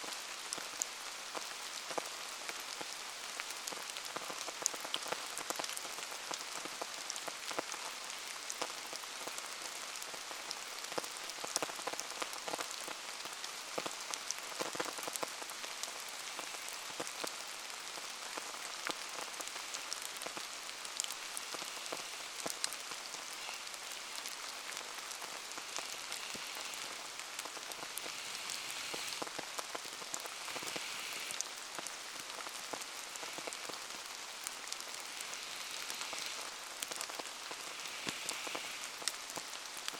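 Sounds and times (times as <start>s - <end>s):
steady rain falling: 0.0s - 39.9s
fire crackling: 0.1s - 39.9s.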